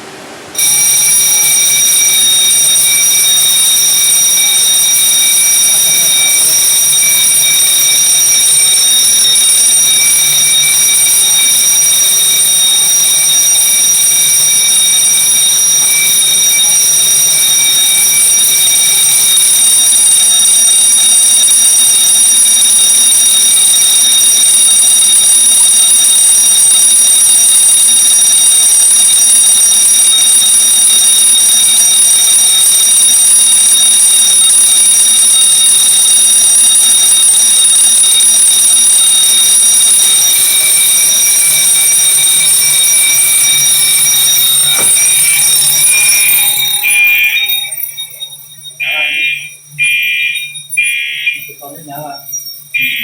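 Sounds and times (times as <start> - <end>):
fire alarm continuous tone: 0.6 - 53.0.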